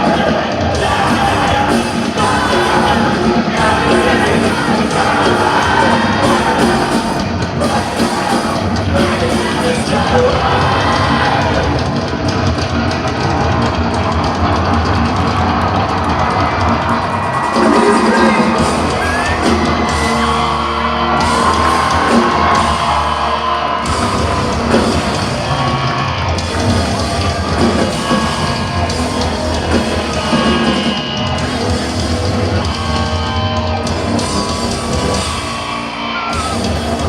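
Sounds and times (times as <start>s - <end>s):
crowd yelling: 0.0s - 37.0s
live rock band with vocals: 0.0s - 37.0s.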